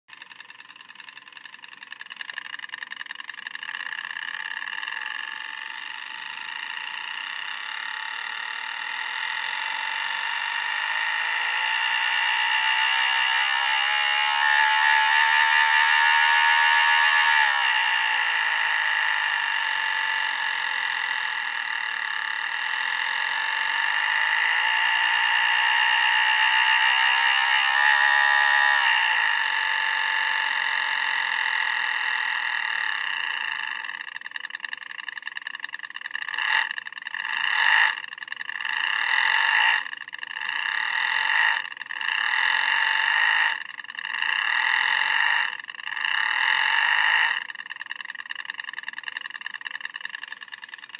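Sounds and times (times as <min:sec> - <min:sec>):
simulated engine through small speaker: 0:00.1 - 0:50.9.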